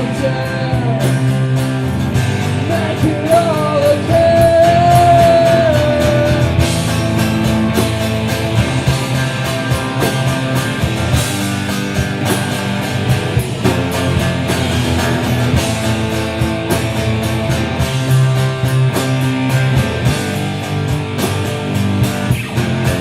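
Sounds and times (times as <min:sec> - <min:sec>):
bass: 0:00.0 - 0:23.0
electric guitar: 0:00.0 - 0:23.0
steady drum beat: 0:00.0 - 0:23.0.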